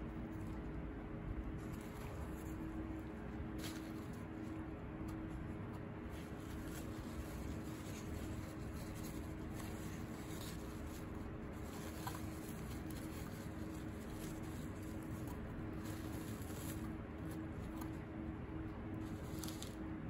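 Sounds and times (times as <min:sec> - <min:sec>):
low room hum: 0:00.0 - 0:20.0
tissue paper rustling: 0:01.6 - 0:18.0, 0:18.9 - 0:19.8.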